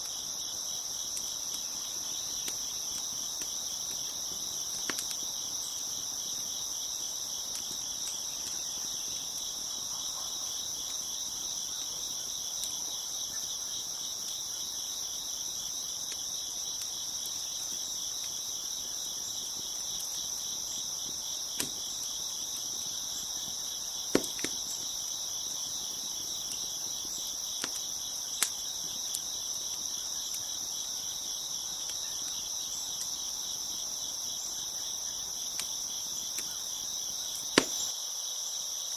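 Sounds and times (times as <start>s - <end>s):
wood fire popping: 0.0s - 37.9s
crickets chirping: 0.0s - 38.9s.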